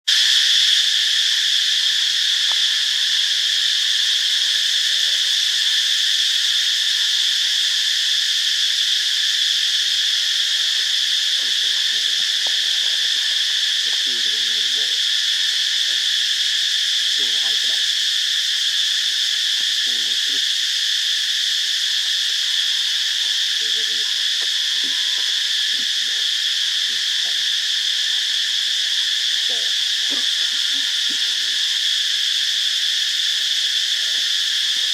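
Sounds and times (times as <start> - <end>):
insects chirping in chorus: 0.0 - 34.9.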